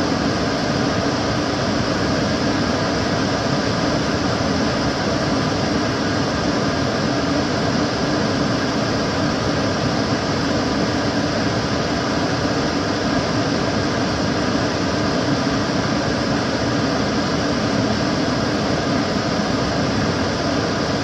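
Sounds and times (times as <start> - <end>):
extractor fan rushing air: 0.0 - 21.0.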